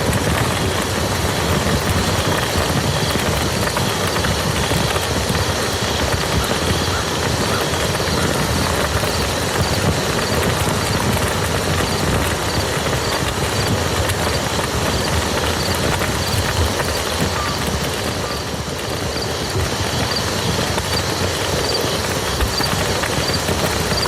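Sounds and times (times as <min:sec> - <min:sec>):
rain falling on a field: 0:00.0 - 0:24.0.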